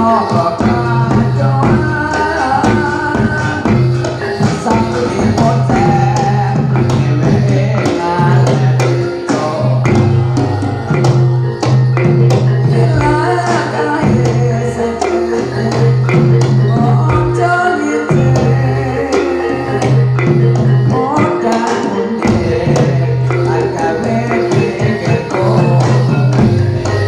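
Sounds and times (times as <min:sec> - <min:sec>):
live traditional music: 0:00.0 - 0:27.0.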